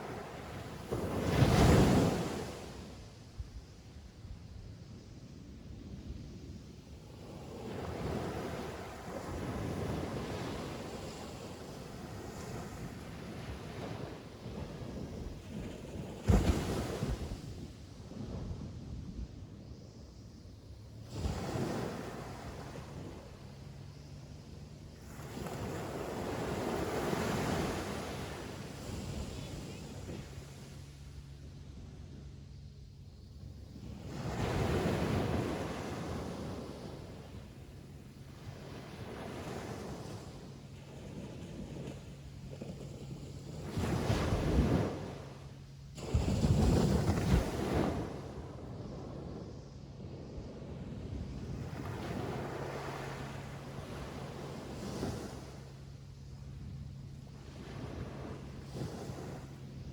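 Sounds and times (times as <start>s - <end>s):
ocean waves breaking: 0.0s - 2.9s, 7.4s - 17.6s, 21.1s - 31.2s, 33.8s - 59.9s.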